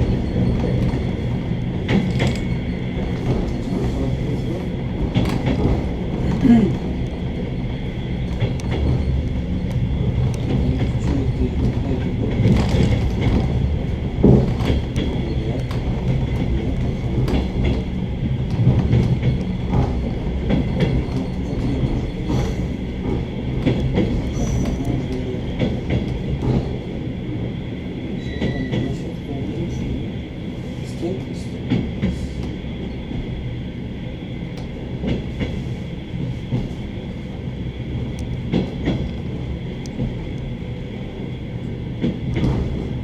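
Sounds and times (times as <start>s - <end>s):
train rumble: 0.0s - 43.0s.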